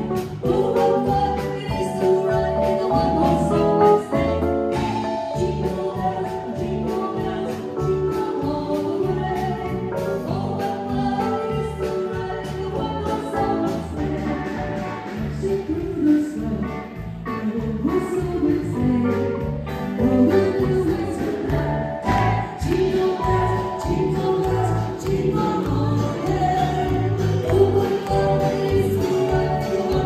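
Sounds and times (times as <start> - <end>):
live band playing: 0.0 - 30.0
person singing: 0.0 - 30.0.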